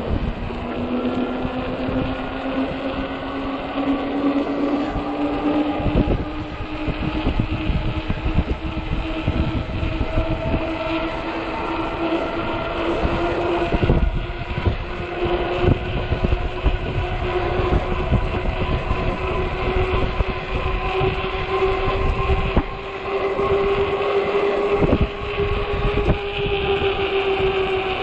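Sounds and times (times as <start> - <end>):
electric bike motor whining: 0.0 - 28.0
wind buffeting microphone: 0.0 - 28.0.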